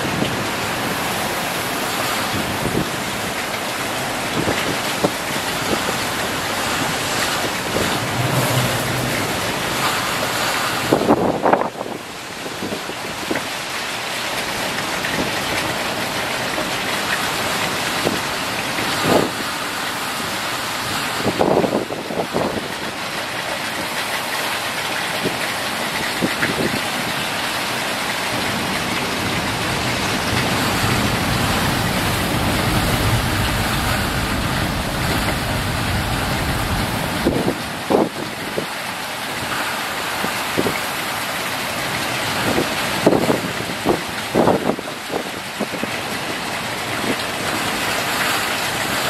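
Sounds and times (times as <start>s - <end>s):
gusting wind: 0.0s - 49.0s
heavy rain: 0.0s - 49.0s.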